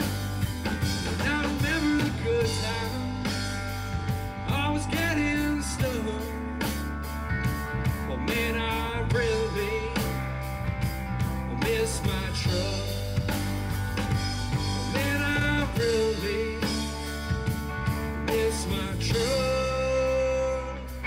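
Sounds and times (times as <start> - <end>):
drum kit: 0.0 - 21.0
electric bass: 0.0 - 21.0
electric guitar lead: 0.0 - 21.0.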